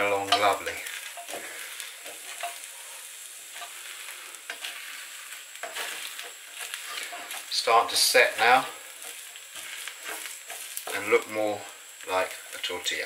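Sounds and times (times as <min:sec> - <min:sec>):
spatula scraping a pan: 0:00.0 - 0:12.8
food sizzling in frying pan: 0:00.0 - 0:13.0.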